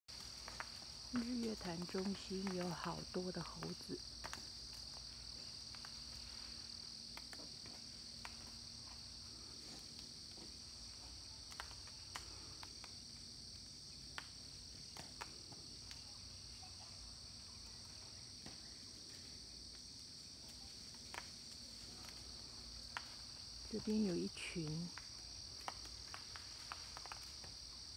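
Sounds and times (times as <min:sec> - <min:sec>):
high-pitched insect chorus: 0:00.1 - 0:27.9.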